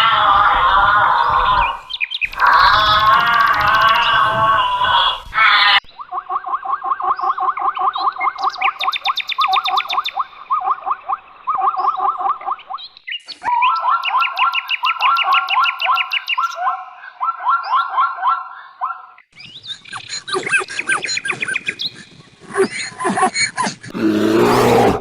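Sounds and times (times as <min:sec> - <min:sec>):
bird chirping: 0:01.6 - 0:25.0.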